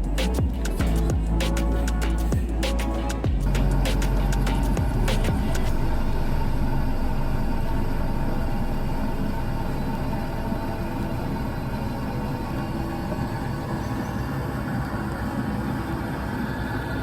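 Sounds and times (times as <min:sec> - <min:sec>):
vehicle engine rumble: 0:00.0 - 0:13.8.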